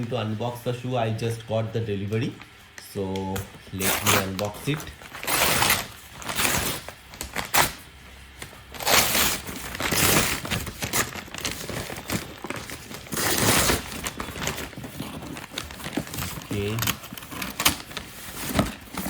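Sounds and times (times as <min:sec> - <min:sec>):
packaging crinkling and tearing: 0:02.4 - 0:19.0.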